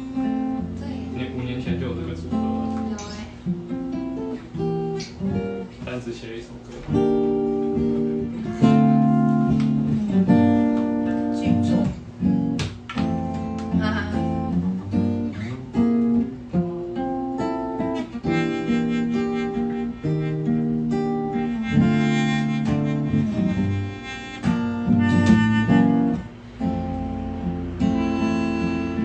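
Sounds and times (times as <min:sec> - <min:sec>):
acoustic guitar chords: 0:00.0 - 0:29.0.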